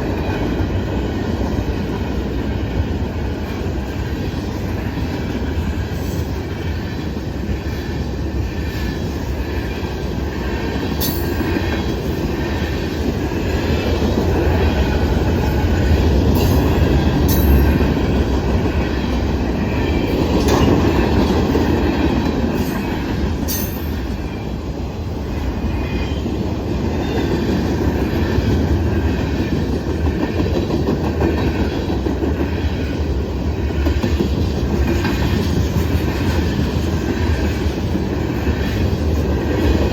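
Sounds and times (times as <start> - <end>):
rhythmic clicking over rail joints: 0.0 - 39.9
train wheels rumbling on rail: 0.0 - 39.9.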